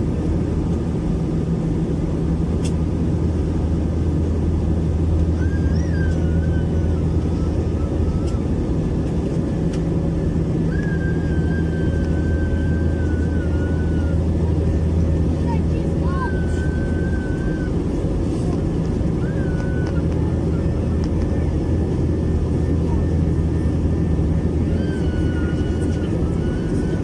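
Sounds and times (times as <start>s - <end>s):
airplane cabin engine drone: 0.0s - 27.0s
thin wavering whine: 0.0s - 27.0s.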